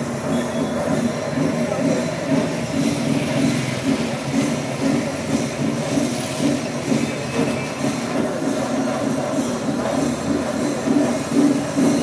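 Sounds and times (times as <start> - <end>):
large engine throbbing: 0.0 - 12.0.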